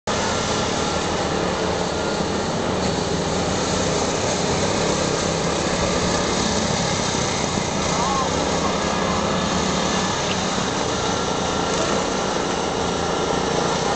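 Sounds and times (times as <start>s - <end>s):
go-kart engines running: 0.1s - 13.9s.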